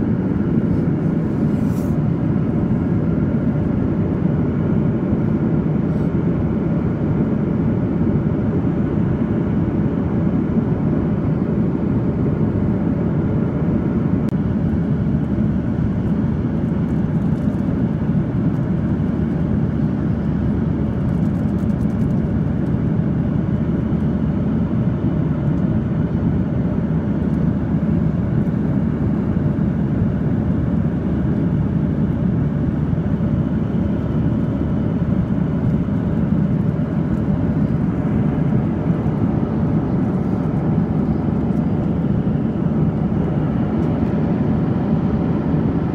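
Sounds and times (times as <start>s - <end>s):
airliner cabin roar: 0.0s - 45.9s.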